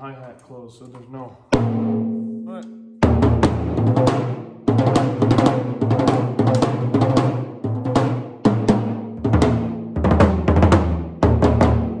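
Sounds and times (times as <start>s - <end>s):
drums hit hard with sticks: 1.5s - 12.0s.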